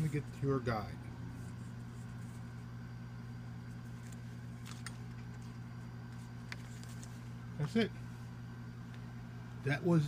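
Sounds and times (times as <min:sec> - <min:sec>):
steady low machine hum: 0:00.0 - 0:10.0.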